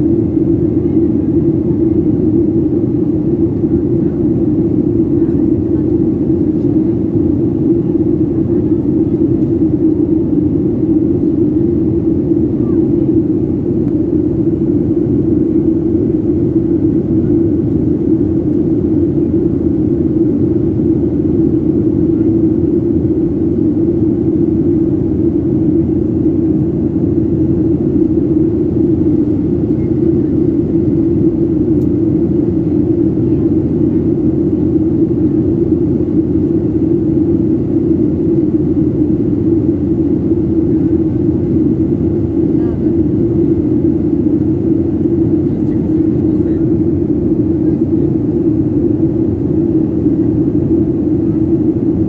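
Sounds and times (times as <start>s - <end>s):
jet airliner cabin noise: 0.0s - 52.0s.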